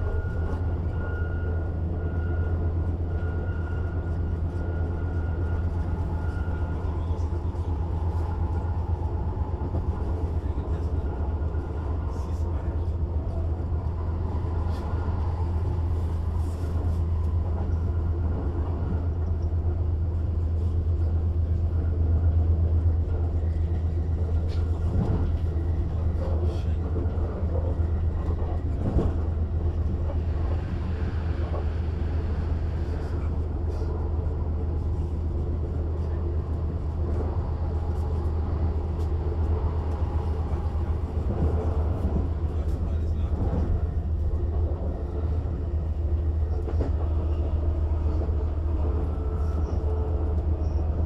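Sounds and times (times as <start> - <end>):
train electrics humming: 0.0 - 51.0
train rolling noise: 0.0 - 51.0.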